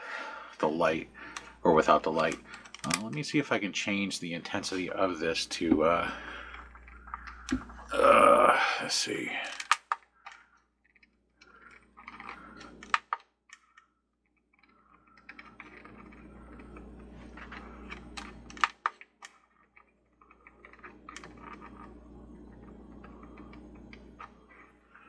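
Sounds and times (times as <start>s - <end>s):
steady low hum: 0.0s - 13.2s, 14.5s - 25.0s.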